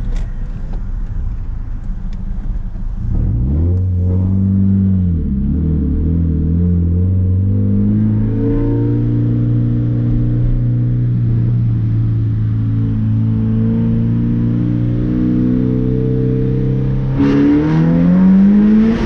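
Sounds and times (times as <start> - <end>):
loud car engine driving: 0.0 - 19.0.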